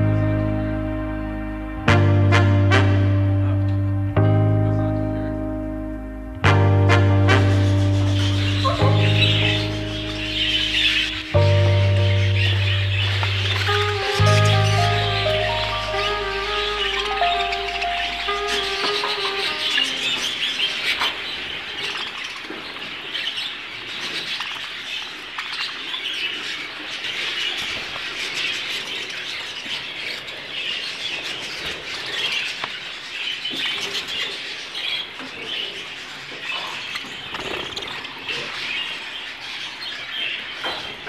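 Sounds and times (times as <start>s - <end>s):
budgerigars chattering and chirping: 7.5s - 41.0s.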